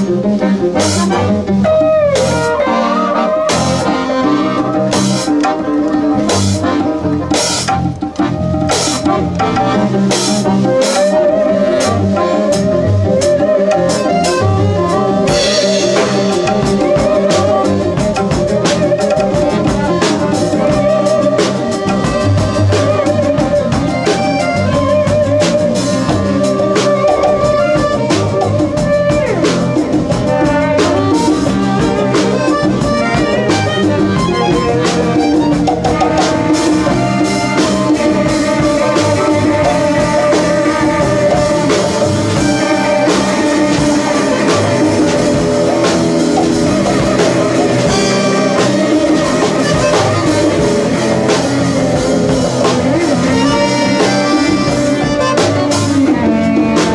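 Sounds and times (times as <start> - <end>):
drum kit and cymbals: 0.0 - 56.9
guitars: 0.0 - 56.9
wavering held melody line: 0.0 - 56.9.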